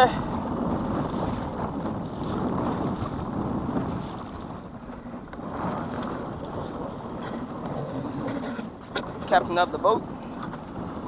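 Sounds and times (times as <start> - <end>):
waves splashing against boat hull: 0.0 - 11.0
wind buffeting microphone: 0.0 - 11.0.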